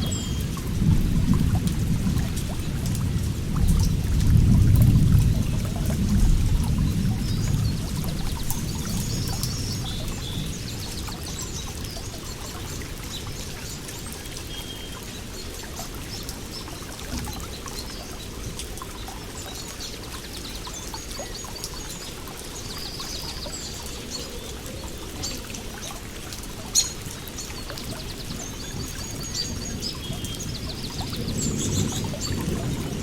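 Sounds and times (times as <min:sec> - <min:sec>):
water flowing and trickling: 0:00.0 - 0:33.0
small birds chirping: 0:05.4 - 0:33.0.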